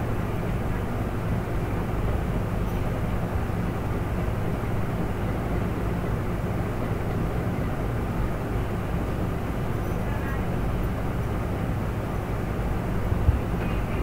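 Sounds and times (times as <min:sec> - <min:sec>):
low drone with hum: 0:00.0 - 0:14.0.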